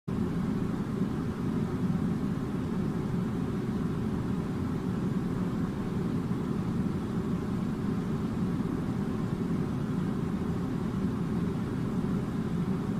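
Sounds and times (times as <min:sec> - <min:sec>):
air conditioning rumble: 0:00.1 - 0:12.9.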